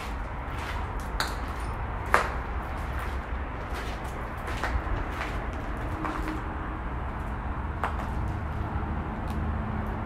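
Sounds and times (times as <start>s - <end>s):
footsteps on gritty ground: 0.0s - 9.5s
steady low rumble: 0.0s - 10.0s.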